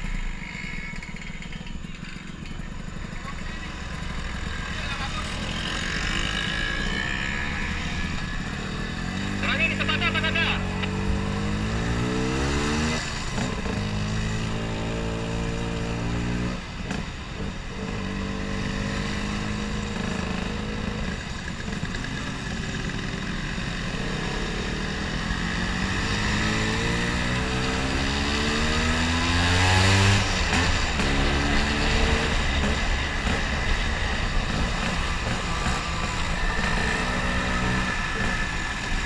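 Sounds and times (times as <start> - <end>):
scooter engine revving: 0.0 - 39.0.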